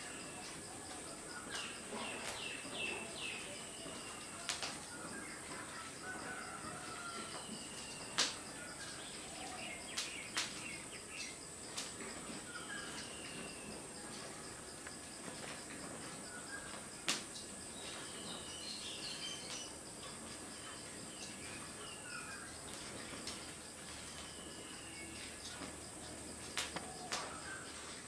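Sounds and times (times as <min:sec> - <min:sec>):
birds chirping: 0:00.0 - 0:14.3, 0:15.0 - 0:28.0
high insect drone: 0:00.0 - 0:28.0
wood fire cracking: 0:00.0 - 0:28.0.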